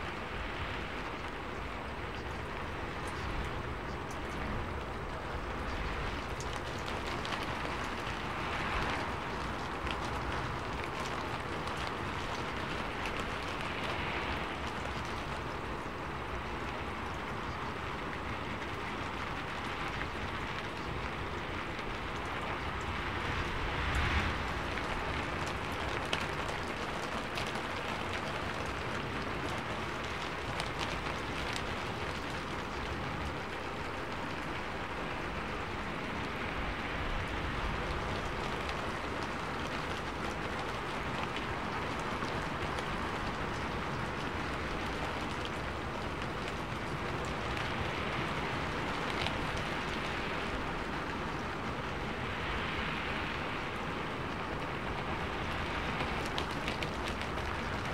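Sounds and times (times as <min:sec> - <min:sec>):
rain-like noise with pattering: 0:00.0 - 0:57.9.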